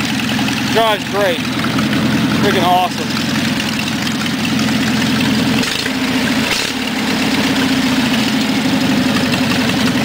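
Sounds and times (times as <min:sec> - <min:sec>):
garden tractor engine idling: 0:00.0 - 0:10.0.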